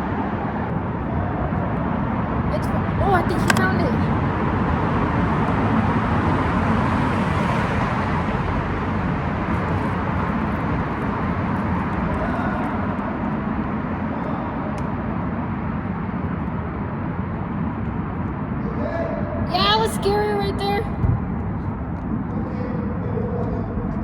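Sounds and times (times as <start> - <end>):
freeway traffic passing: 0.0 - 24.0.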